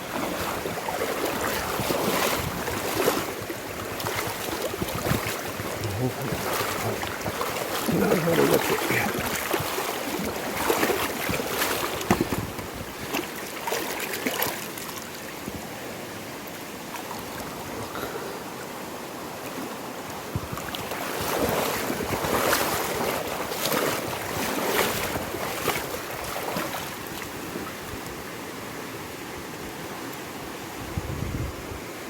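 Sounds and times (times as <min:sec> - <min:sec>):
river water rushing and splashing: 0:00.0 - 0:32.0.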